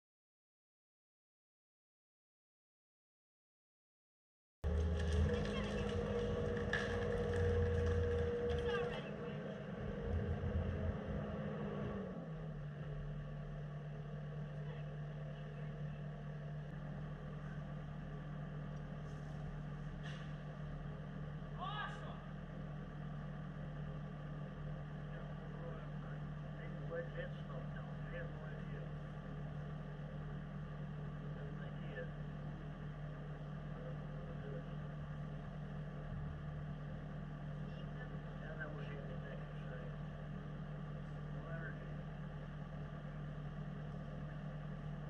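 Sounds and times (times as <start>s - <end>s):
engine idling: 4.6s - 45.0s.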